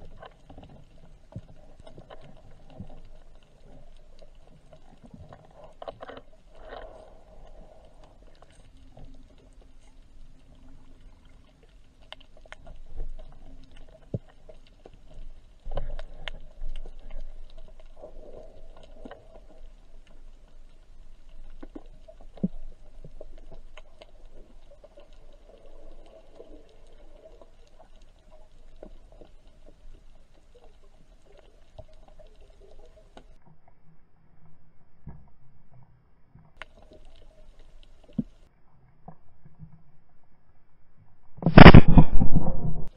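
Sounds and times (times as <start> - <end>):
small underwater clicks: 0.0 - 40.2
underwater rumble: 0.0 - 42.9.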